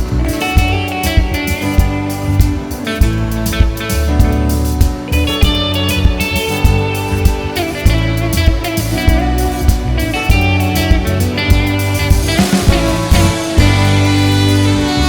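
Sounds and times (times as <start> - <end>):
drum kit beat: 0.0 - 15.0
guitar: 0.0 - 15.0.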